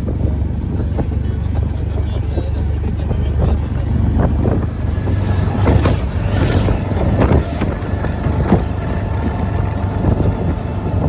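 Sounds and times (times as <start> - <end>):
auto rickshaw engine droning: 0.0 - 11.0
knocks and rattles: 0.0 - 11.0.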